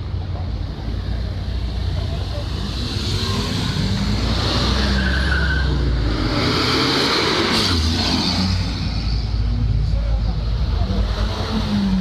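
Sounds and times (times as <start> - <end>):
cars passing slowly: 0.0 - 12.0
tyre and road noise: 0.0 - 12.0.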